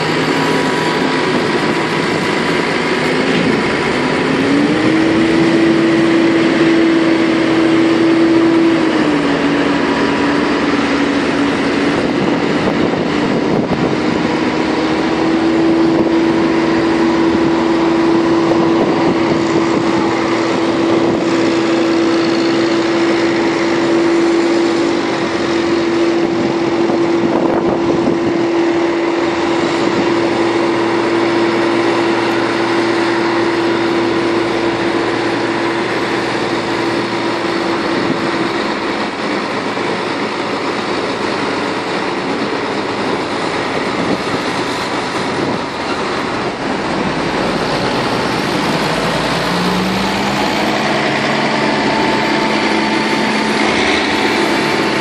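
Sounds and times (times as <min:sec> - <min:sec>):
tractor diesel engines running: 0:00.0 - 0:55.0.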